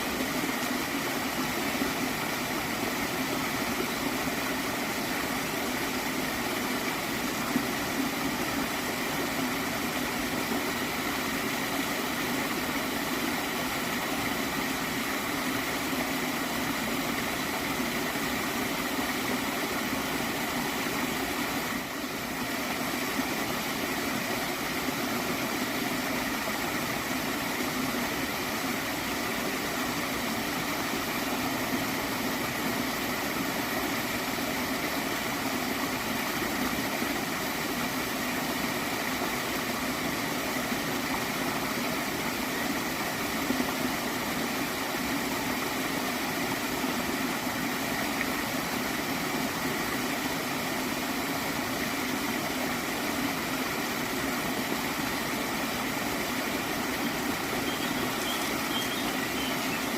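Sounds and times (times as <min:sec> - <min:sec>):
stream flowing and gurgling: 0:00.0 - 0:59.9.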